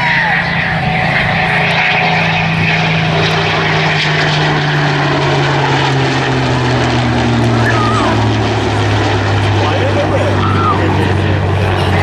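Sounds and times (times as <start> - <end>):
jet engines rushing: 0.0 - 12.0
piston aircraft engine drone: 0.0 - 12.0.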